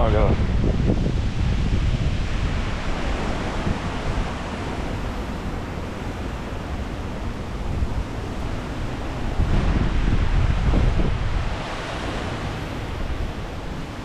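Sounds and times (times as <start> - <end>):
hurricane wind rushing: 0.0 - 14.0
wind buffeting microphone: 0.0 - 14.0.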